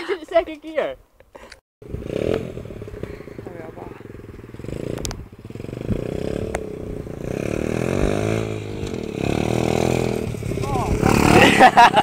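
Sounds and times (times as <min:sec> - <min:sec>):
motorbike engine revving: 0:01.8 - 0:12.0.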